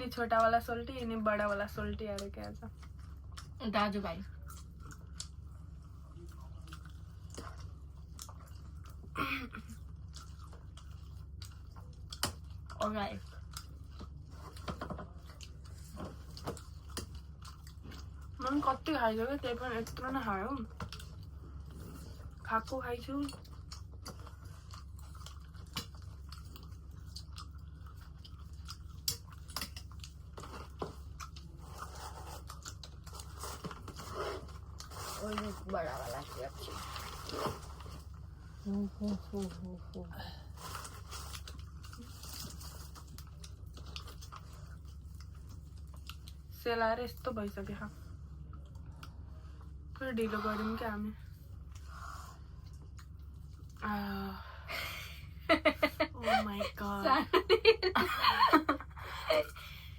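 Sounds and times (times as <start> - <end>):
steady low hum: 0.0 - 59.9
chewing fried food: 0.2 - 54.0.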